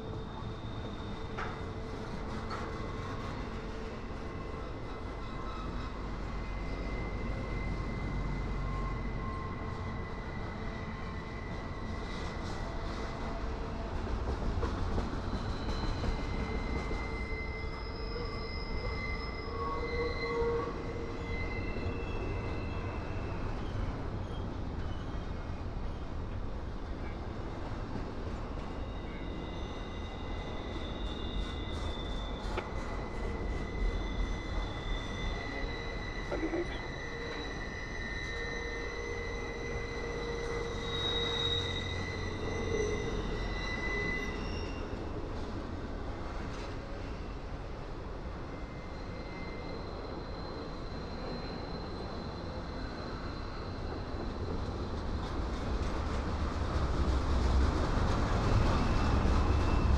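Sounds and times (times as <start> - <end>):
high wheel squeals: 0.0 - 13.3, 15.1 - 26.1, 28.5 - 47.6, 48.2 - 55.2, 58.3 - 59.9
steel wheels rumbling on rail: 0.0 - 59.9.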